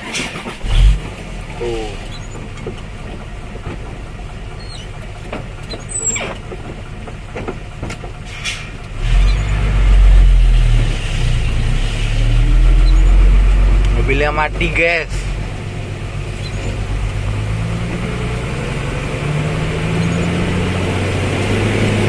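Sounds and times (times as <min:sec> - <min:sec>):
heavy engine climbing: 0:00.0 - 0:22.0
vehicle engine rumbling: 0:00.0 - 0:22.0.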